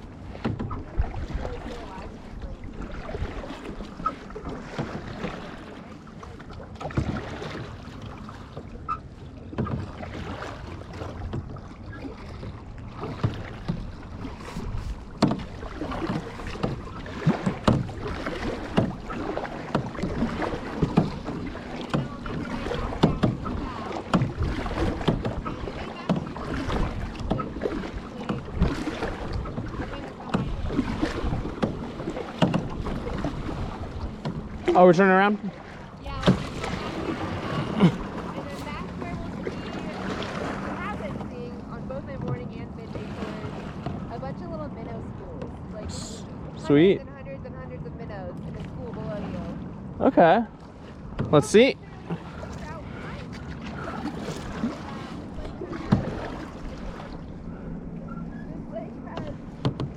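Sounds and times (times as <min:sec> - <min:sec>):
paddle splashing in water: 0:00.0 - 0:59.9
water washing: 0:00.0 - 0:59.9.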